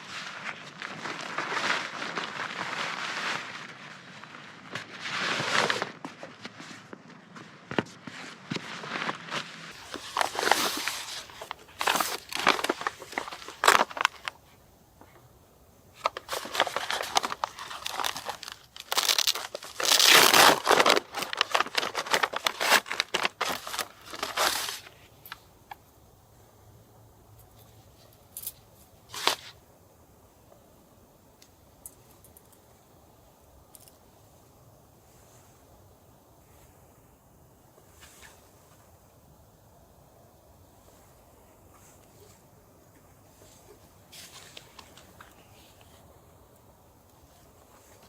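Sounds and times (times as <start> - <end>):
material rustling and crinkling: 0.0 - 26.0, 27.4 - 29.7, 33.6 - 48.0.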